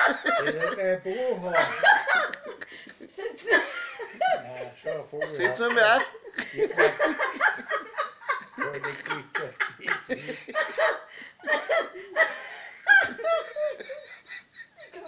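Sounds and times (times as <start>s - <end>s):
hearty laughter: 0.0s - 15.0s.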